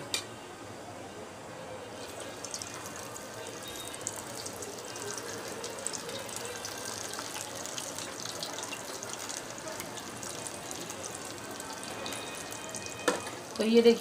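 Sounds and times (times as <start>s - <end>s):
food deep-frying in oil: 1.7s - 14.0s.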